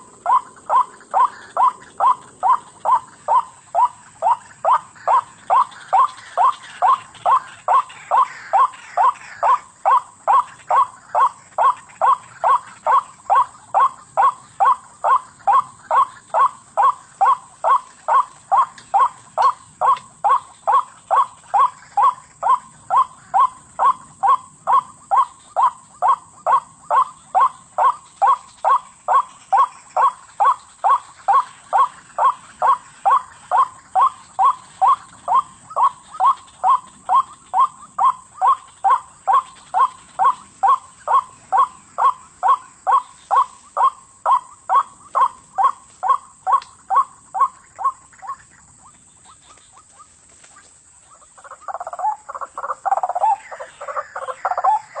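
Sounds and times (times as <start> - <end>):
waterhen calling: 0.0 - 55.0.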